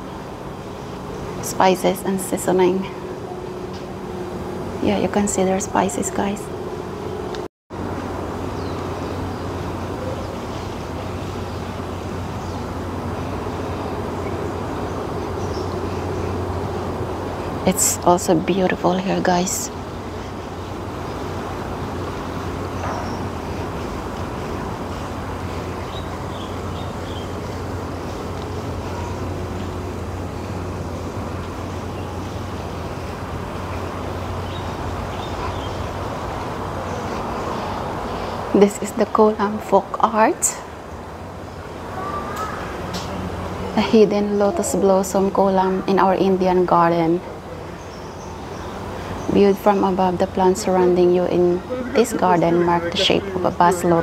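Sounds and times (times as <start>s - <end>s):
low even hum: 0.0s - 54.0s.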